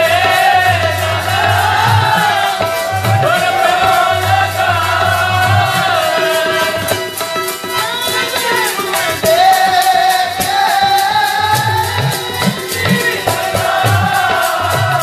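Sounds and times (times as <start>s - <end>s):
harmonium notes: 0.0s - 15.0s
men singing: 0.0s - 15.0s
tabla strokes: 0.0s - 15.0s.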